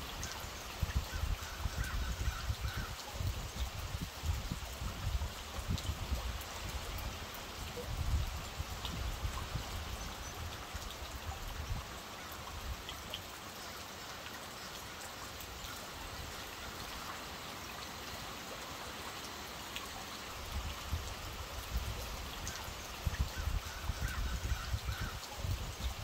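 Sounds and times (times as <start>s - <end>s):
rain falling on water: 0.0s - 26.0s
water drips ticking: 0.0s - 26.0s.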